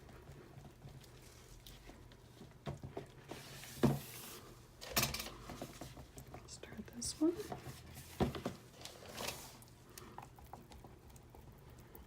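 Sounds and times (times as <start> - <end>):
batter stirred with scraping: 0.0 - 12.0.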